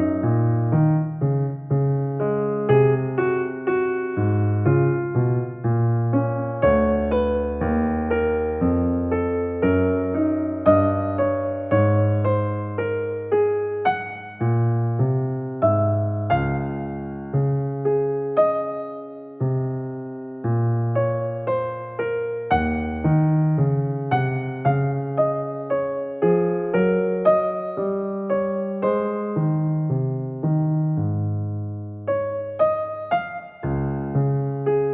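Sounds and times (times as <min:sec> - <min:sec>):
gentle solo piano piece: 0:00.0 - 0:34.9.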